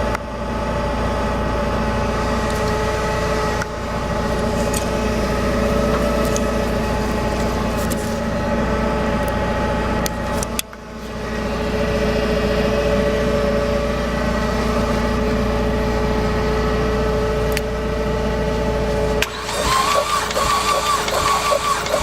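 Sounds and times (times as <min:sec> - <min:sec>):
starter motor cranking engine: 0:01.9 - 0:09.3, 0:10.0 - 0:22.0.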